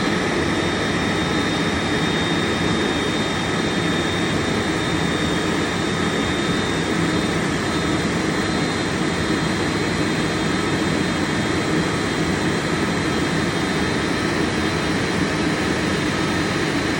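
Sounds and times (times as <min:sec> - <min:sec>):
jet engines rumbling: 0:00.0 - 0:16.9
thin high whine: 0:00.0 - 0:16.9.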